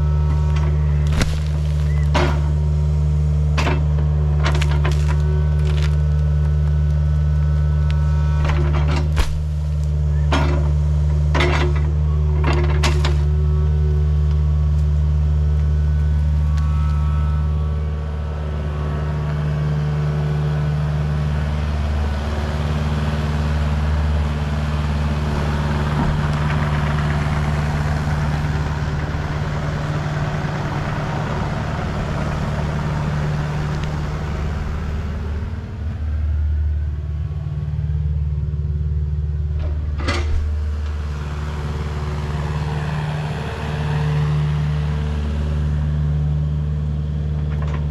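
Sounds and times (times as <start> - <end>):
engine running: 0.0 - 47.9.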